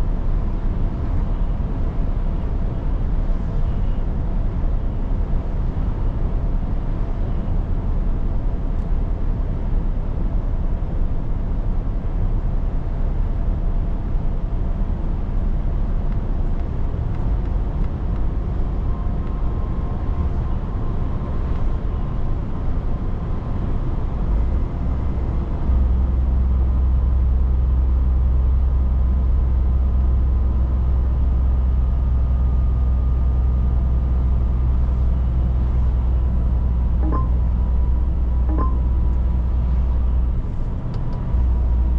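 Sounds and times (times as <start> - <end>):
truck engine drone: 0.0 - 41.9.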